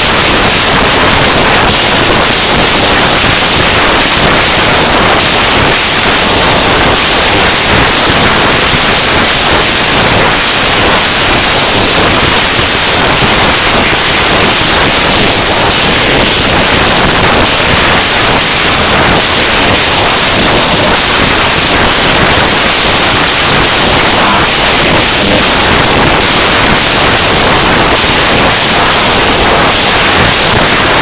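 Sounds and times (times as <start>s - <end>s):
harsh noise music: 0.0s - 31.0s.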